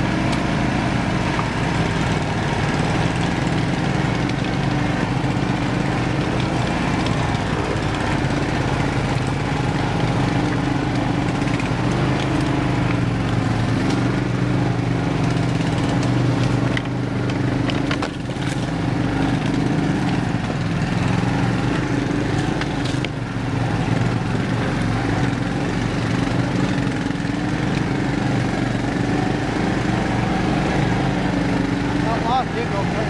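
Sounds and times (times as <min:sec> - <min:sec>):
garden tractor engine running: 0:00.0 - 0:33.0.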